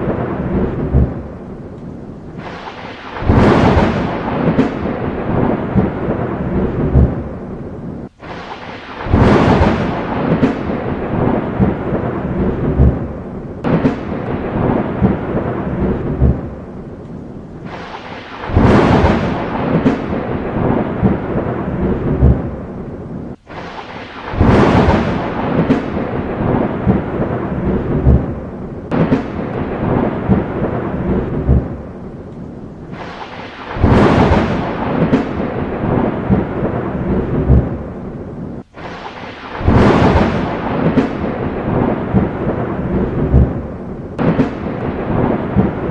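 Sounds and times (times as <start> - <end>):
rain falling: 0.0 - 45.9
thunder rumbling and crackling: 0.0 - 45.9.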